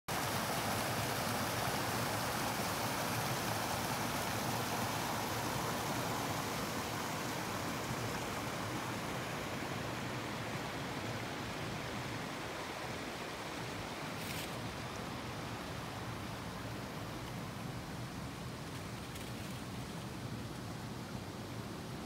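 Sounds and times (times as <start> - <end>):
creek water rushing over cascade: 0.1 - 22.0.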